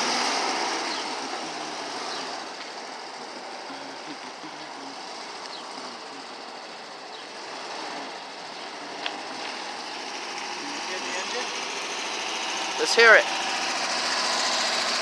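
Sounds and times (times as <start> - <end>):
engine idling with clatter: 0.0 - 15.0.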